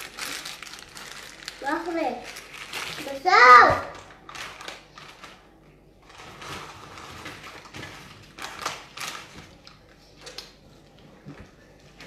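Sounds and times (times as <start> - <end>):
paper wrappers crinkling: 0.0 - 12.0.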